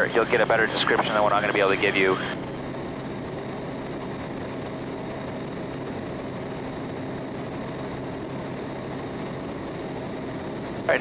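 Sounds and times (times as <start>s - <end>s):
turboprop engine drone: 0.0s - 11.0s.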